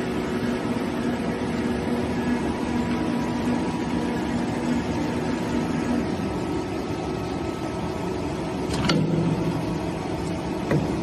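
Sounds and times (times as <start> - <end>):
friction welding machine hum: 0.0 - 11.0.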